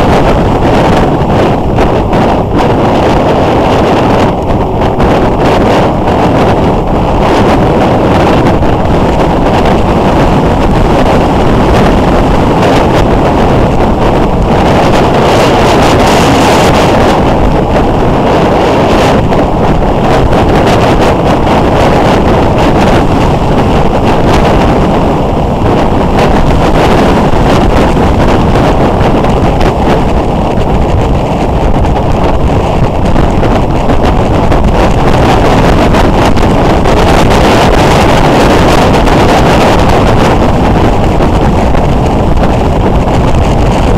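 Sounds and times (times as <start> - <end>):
motorcycle engine running: 0.0 - 43.9
wind noise on microphone: 0.0 - 43.9.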